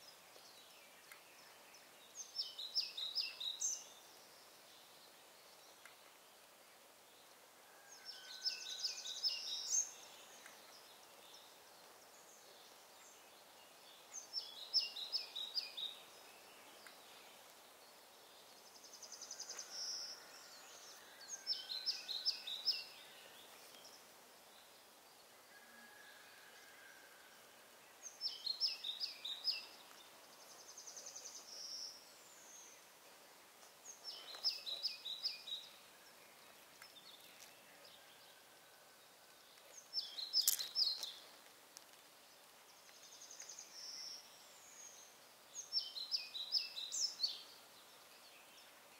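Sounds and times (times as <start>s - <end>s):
faint outdoor background noise: 0.0s - 48.9s.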